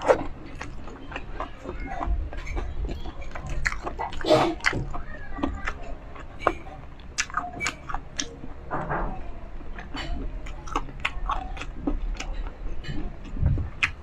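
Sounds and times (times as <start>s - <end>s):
wet chewing and smacking: 0.0s - 8.7s, 9.6s - 14.0s.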